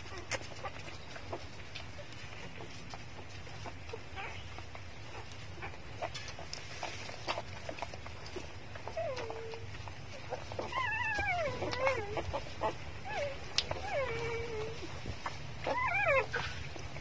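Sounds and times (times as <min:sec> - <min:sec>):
puppies squealing and whining: 0:00.0 - 0:17.0.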